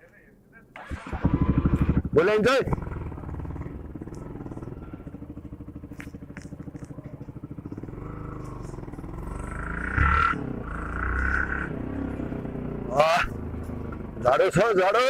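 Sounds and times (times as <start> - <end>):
motorcycle engine idling and revving: 0.8 - 15.0.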